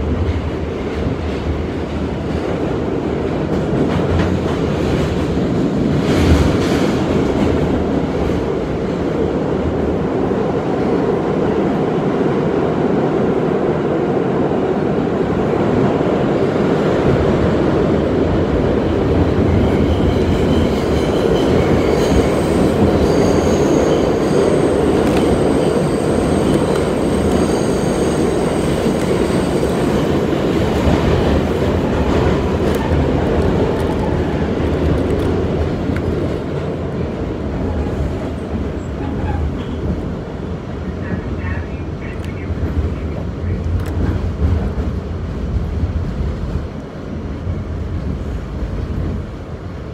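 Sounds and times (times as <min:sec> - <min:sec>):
subway car rumbling: 0:00.0 - 0:49.9.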